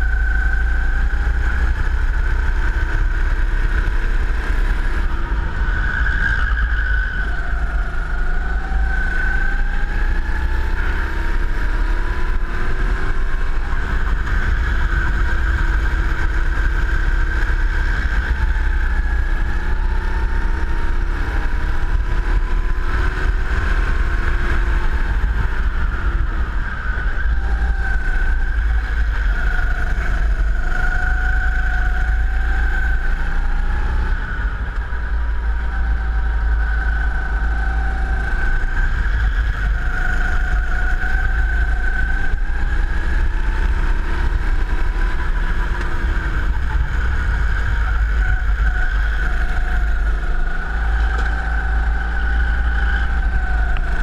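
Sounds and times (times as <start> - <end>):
go-kart engine running flat out: 0.0 - 54.0
wind rumble on microphone: 0.0 - 54.0.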